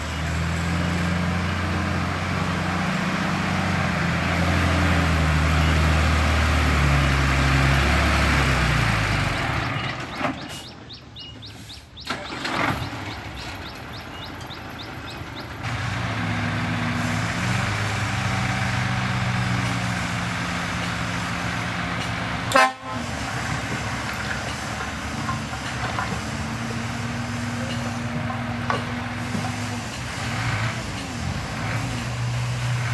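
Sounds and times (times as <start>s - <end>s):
heavy vehicle engine rumble: 0.0s - 32.9s.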